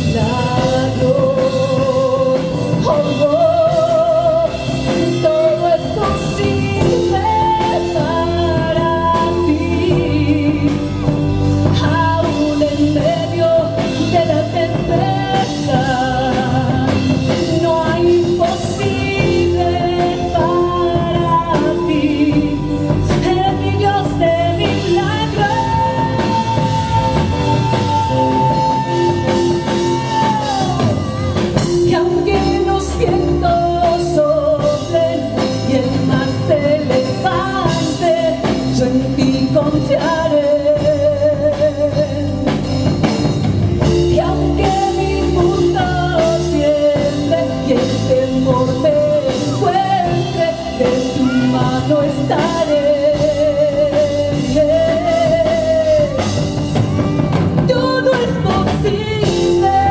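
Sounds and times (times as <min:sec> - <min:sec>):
band accompaniment: 0:00.0 - 0:59.9
woman singing: 0:00.0 - 0:59.9.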